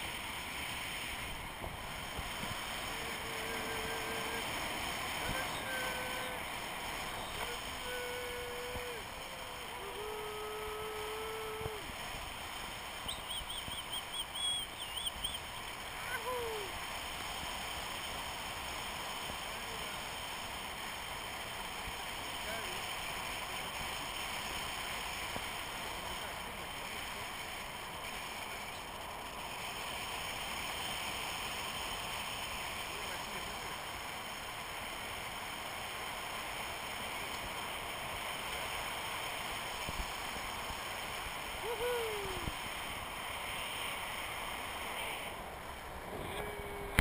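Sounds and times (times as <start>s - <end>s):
wind rushing over camera: 0.0s - 32.8s, 34.0s - 47.0s
thin steady tone: 0.0s - 47.0s.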